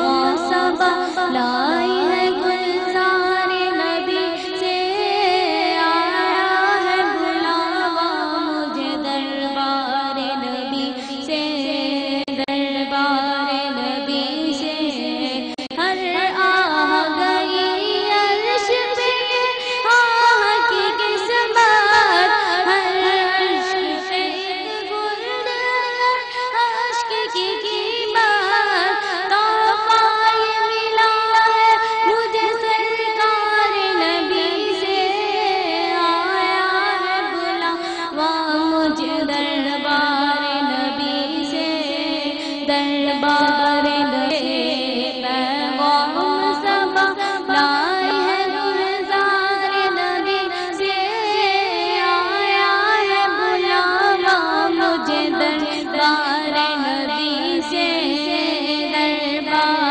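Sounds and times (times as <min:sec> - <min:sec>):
boy singing devotional poem: 0:00.0 - 0:59.9.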